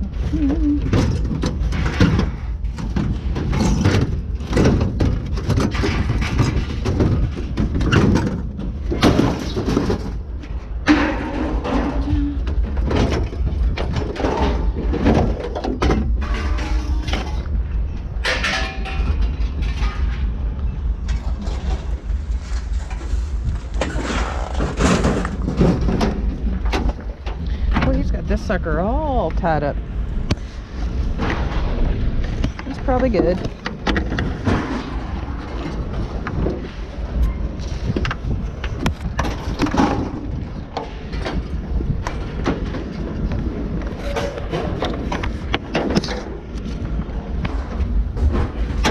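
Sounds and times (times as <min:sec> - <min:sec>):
sharp knocks and rattles: 0:00.0 - 0:29.2, 0:30.2 - 0:48.9
clattering noises: 0:00.0 - 0:48.9
vehicle engine rumbling: 0:00.0 - 0:48.9.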